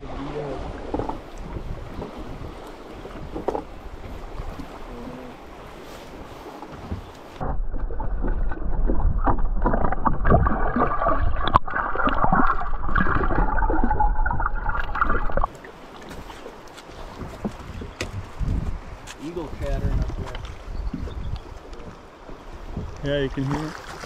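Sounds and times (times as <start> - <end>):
muffled underwater river rushing: 0.0 - 24.0
wind: 0.0 - 24.0.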